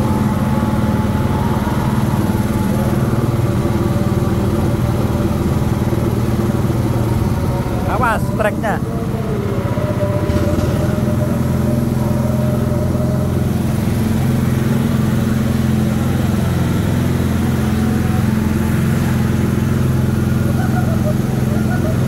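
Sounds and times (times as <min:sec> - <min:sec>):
go-kart engine running: 0:00.0 - 0:22.0.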